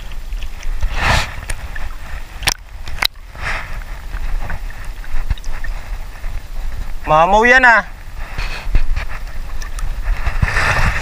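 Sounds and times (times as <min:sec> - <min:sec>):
sea water lapping: 0:00.0 - 0:11.0.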